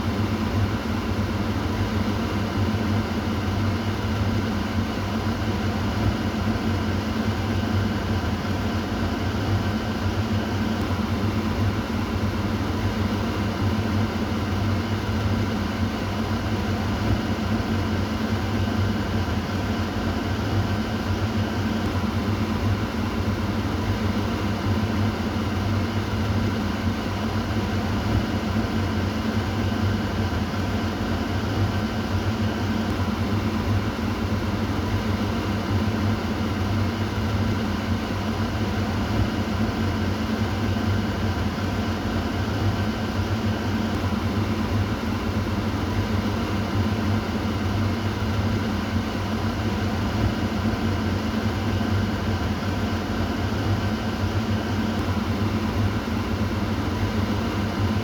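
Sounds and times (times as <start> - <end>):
exhaust fan running: 0.0 - 58.0.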